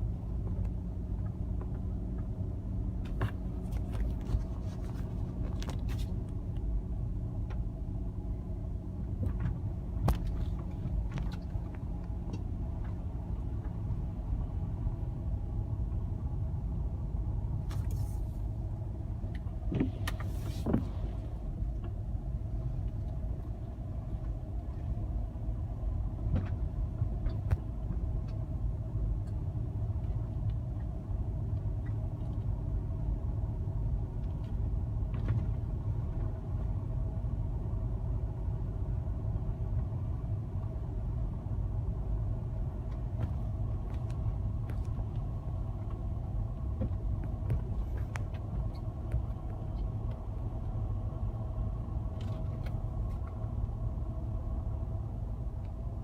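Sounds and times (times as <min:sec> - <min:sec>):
car engine and tyre rumble: 0:00.0 - 0:56.0
faint constant hum: 0:00.0 - 0:56.0.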